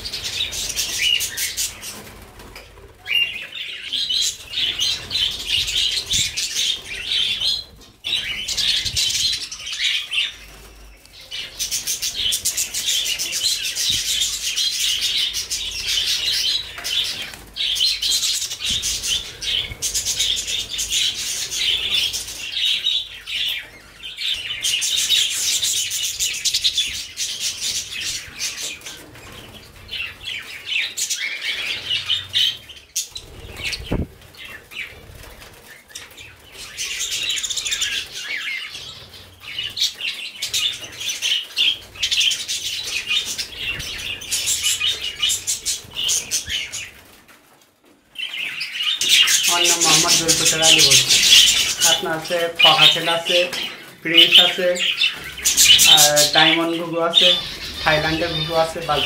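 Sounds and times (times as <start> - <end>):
budgerigars chattering and chirping: 0.0 - 2.2, 3.0 - 47.0, 48.2 - 59.0.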